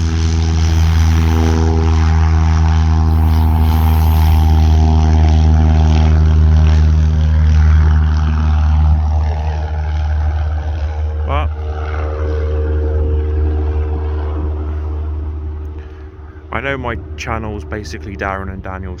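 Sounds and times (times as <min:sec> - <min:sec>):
light aircraft engine droning: 0:00.0 - 0:19.0.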